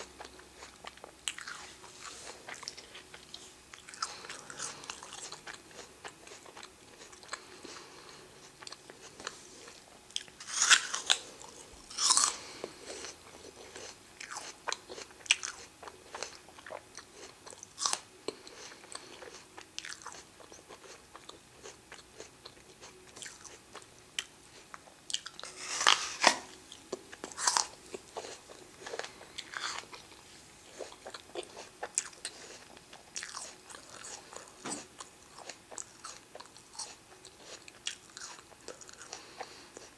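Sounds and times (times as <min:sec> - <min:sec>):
apple crunching: 0:00.0 - 0:39.9
chewing: 0:00.0 - 0:39.9.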